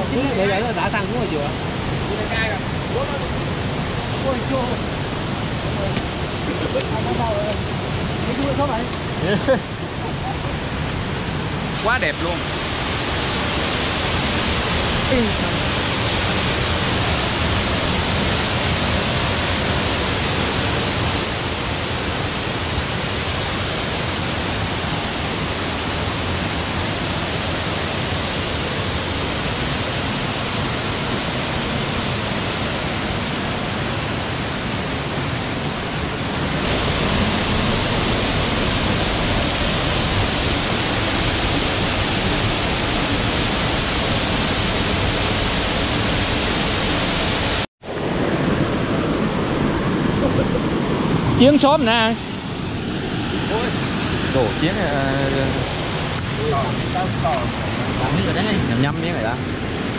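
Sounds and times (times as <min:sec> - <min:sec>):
waterfall rushing water: 0:00.0 - 0:59.9.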